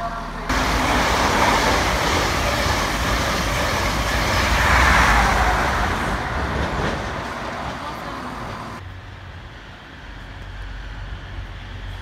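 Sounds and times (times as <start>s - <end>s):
train passing at speed: 0.4s - 12.0s.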